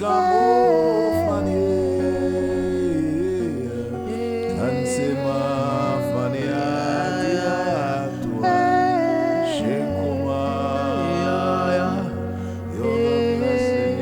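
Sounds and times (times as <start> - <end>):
held keyboard chords: 0.0 - 14.0
wordless singing voice: 0.0 - 14.0.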